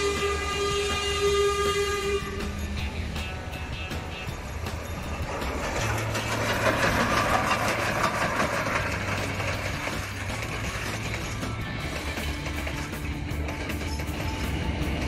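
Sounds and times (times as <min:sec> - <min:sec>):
steam train passing: 0:00.0 - 0:15.0.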